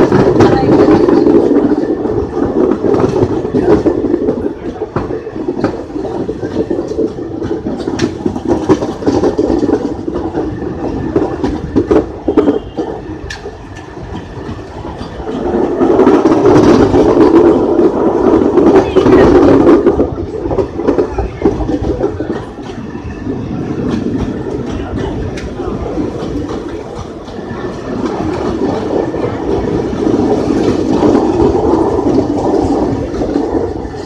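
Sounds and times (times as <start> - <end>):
passing train rumble: 0.0 - 34.0
wheels clacking over rail joints: 0.0 - 34.0.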